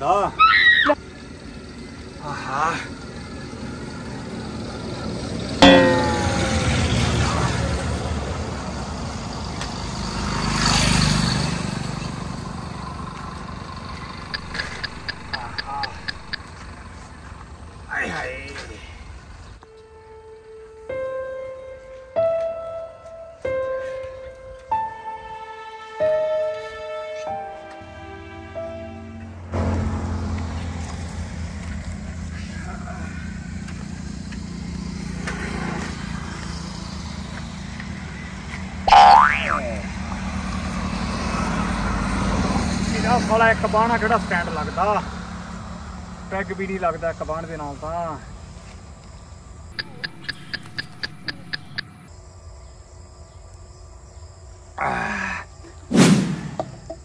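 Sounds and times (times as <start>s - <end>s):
road vehicle passing by: 1.0s - 19.6s, 23.5s - 52.1s.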